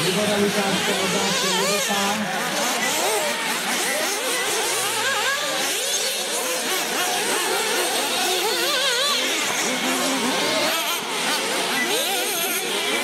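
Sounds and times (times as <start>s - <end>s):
rc car motors whining: 0.0s - 13.0s.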